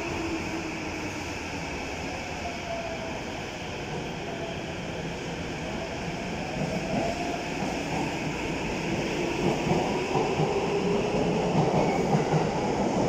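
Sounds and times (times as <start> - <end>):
subway train pulling out: 0.0 - 13.0.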